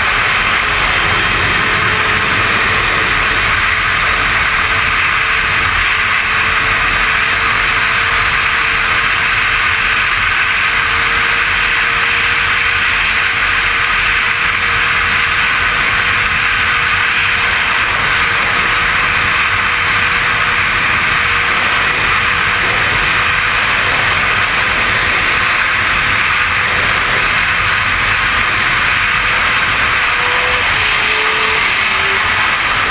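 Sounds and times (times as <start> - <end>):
faint motorcycle engine: 0.0 - 32.9
wind and road rush: 0.0 - 32.9.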